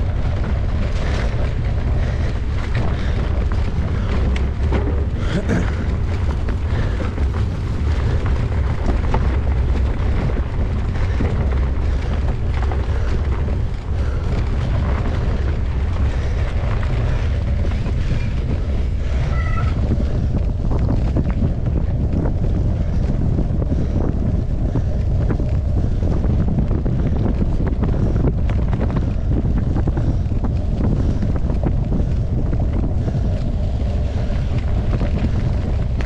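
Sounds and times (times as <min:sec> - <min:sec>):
wind rumble on microphone: 0:00.0 - 0:36.0.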